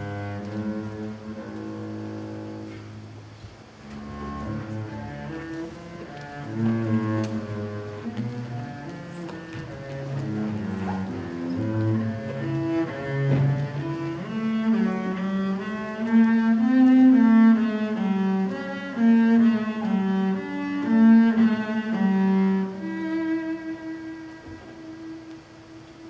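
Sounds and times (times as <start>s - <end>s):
bowed double bass: 0.0s - 26.0s.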